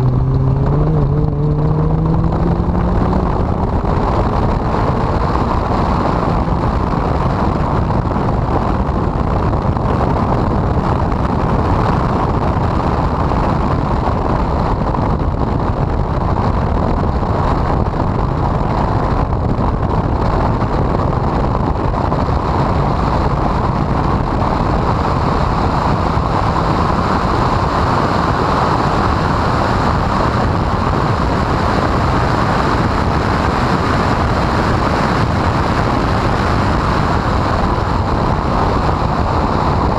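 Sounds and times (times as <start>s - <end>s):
race car engine and road noise: 0.0s - 39.9s.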